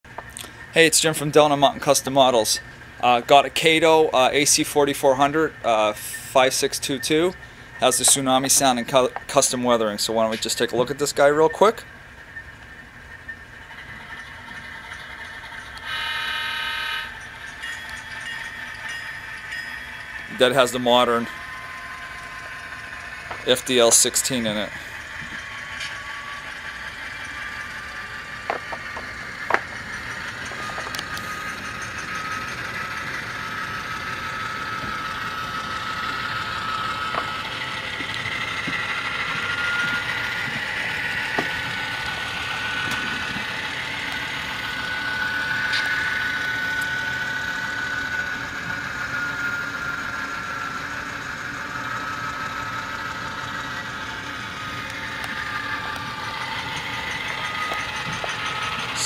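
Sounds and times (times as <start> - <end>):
model locomotive diesel engine sound: 0.0 - 59.0.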